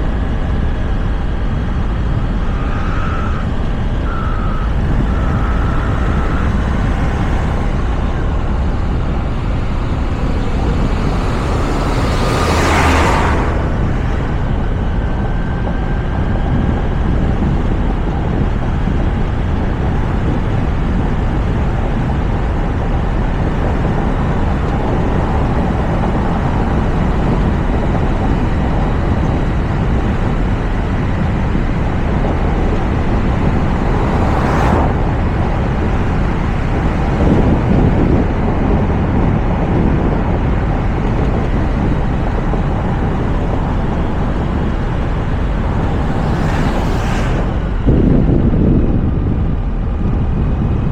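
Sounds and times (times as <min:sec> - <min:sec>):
wind noise: 0:00.0 - 0:50.9.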